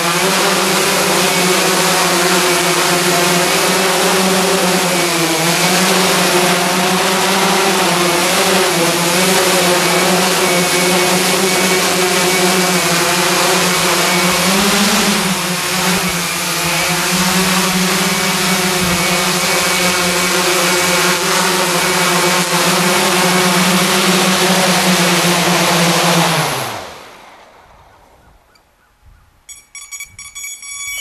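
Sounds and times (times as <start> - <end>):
drone motors whirring: 0.0 - 27.4.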